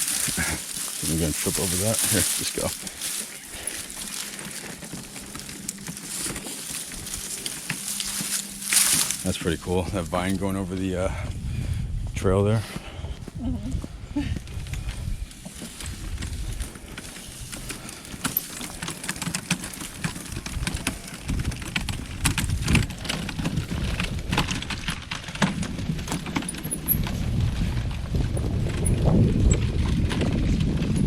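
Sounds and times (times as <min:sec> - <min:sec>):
footsteps on dirt trail: 0:00.0 - 0:31.0
wagon wheels rattling: 0:00.0 - 0:31.0.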